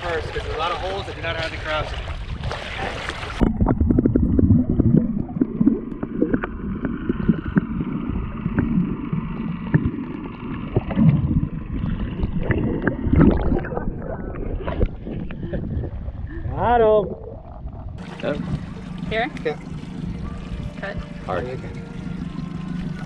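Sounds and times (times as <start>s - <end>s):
underwater rumble and gurgling: 0.0s - 23.0s.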